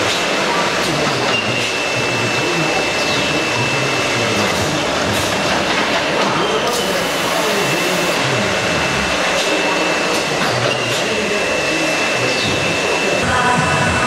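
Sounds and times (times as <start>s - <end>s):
conveyor belts running: 0.0s - 14.0s
high motor whine: 0.0s - 14.0s.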